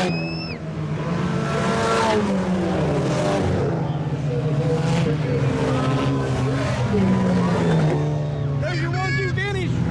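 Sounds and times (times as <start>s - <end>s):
race car engines revving: 0.0s - 9.9s.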